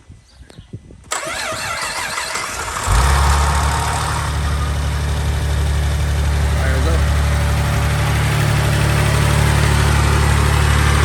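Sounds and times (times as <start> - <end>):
car engine cranking and idling: 1.1 - 11.0.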